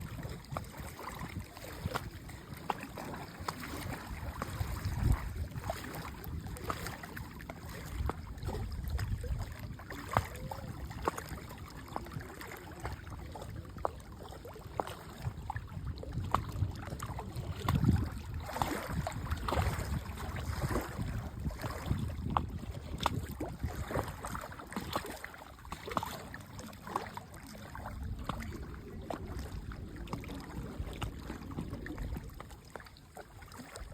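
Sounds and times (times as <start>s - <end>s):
lake water lapping: 0.0s - 33.9s
small waves splashing: 0.0s - 33.9s.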